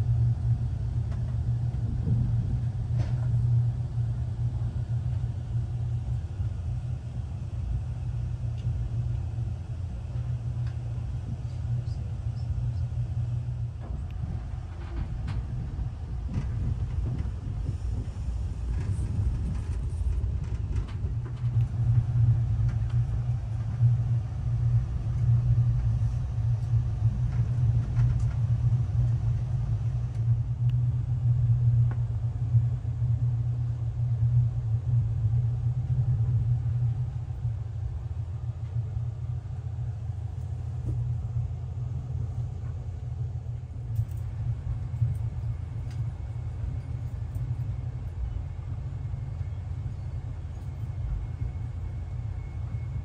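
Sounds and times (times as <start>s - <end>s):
train carriage rumbling on rails: 0.0s - 53.0s.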